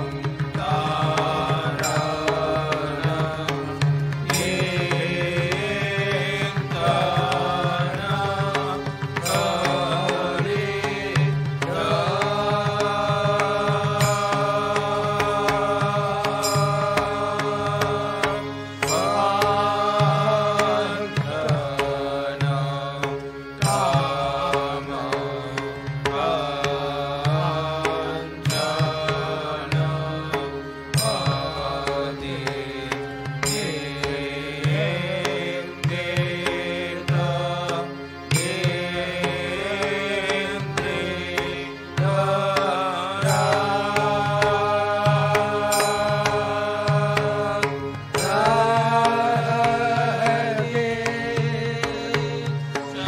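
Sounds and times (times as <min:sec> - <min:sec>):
person singing a hymn: 0:00.0 - 0:53.0.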